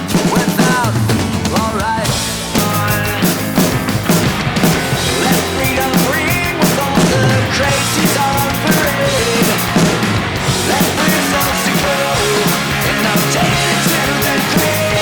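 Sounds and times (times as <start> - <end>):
electronic drum kit playing: 0.0 - 15.0
rock music track: 0.0 - 15.0.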